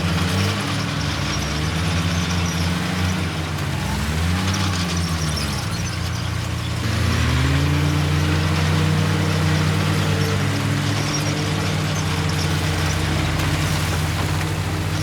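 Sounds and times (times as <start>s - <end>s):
heavy diesel engine revving: 0.0s - 15.0s.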